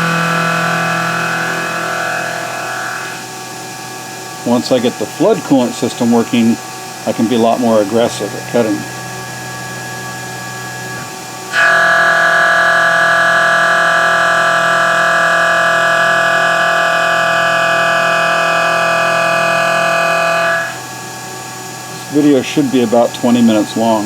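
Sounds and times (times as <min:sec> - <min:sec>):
milling cutter whine: 0:00.0 - 0:24.0.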